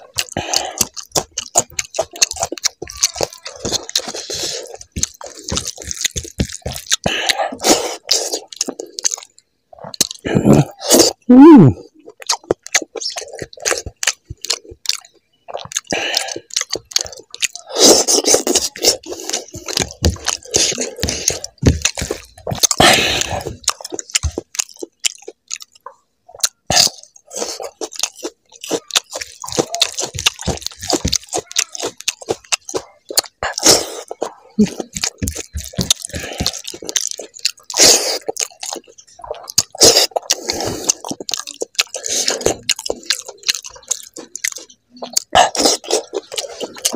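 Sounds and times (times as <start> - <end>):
mouth clicks and lip smacks: 0.0 - 46.9
wet chewing with lip smacks: 0.0 - 46.9.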